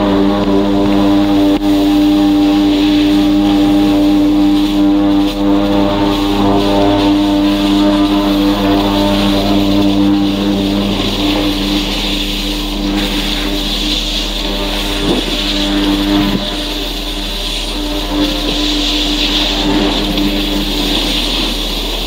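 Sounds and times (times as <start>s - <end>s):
droning hum: 0.0s - 22.0s
snowboard edges scraping snow: 0.0s - 22.0s.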